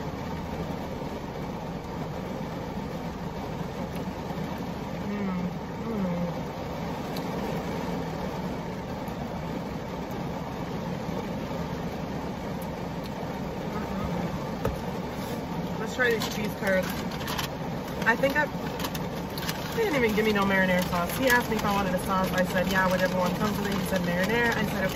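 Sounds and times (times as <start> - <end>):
heavy rain on a car roof: 0.0 - 24.9.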